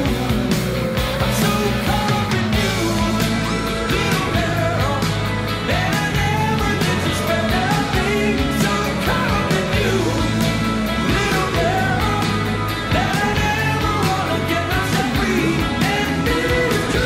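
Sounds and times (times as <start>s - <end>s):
rock song with singing: 0.0s - 17.0s
steady drum beat: 0.0s - 17.0s.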